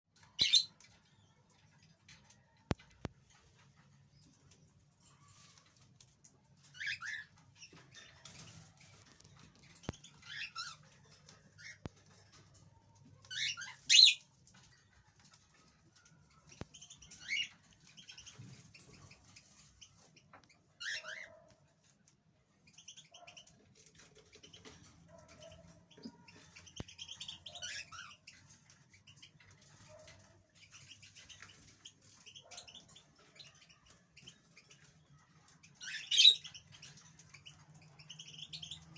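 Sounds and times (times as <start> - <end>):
goldfinch chirping and twittering: 0.2 - 21.4, 22.6 - 38.9.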